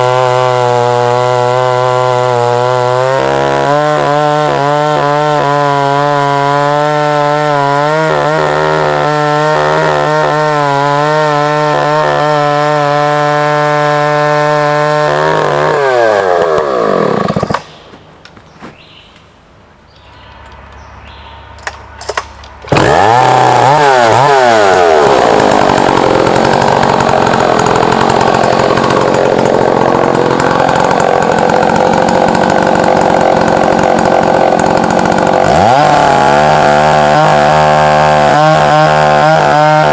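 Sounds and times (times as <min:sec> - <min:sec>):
chainsaw running at high revs: 0:00.0 - 0:17.6, 0:22.7 - 0:39.9.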